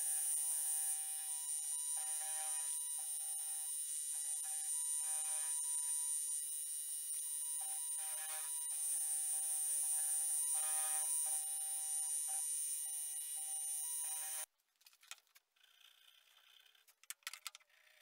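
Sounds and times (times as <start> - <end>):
milling machine whine: 0.0 - 14.5.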